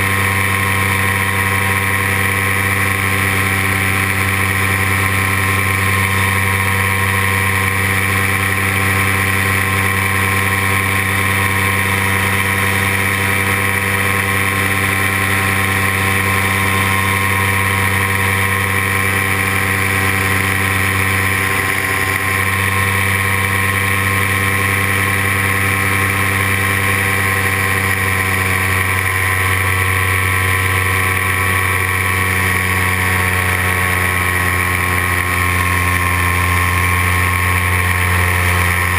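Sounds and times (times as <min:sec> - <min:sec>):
paramotor engine droning: 0:00.0 - 0:38.9.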